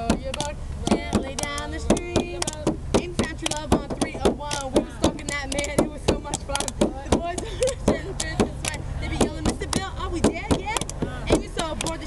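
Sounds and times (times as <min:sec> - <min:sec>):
girls rapping: 0:00.0 - 0:12.0
quick beat of sharp knocks: 0:00.0 - 0:12.0.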